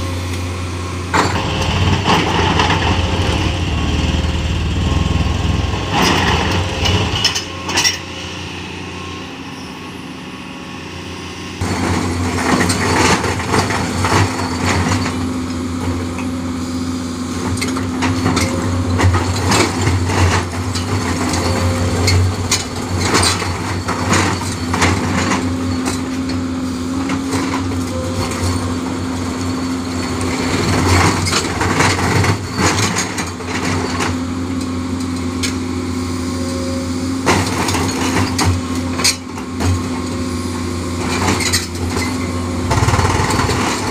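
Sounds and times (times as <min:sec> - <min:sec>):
diesel engine drone: 0:00.0 - 0:43.9.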